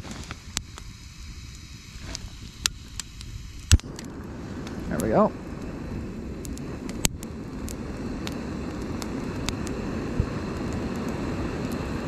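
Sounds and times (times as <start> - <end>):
campfire crackling: 0.0 - 12.0
gas stove hissing: 0.0 - 12.0.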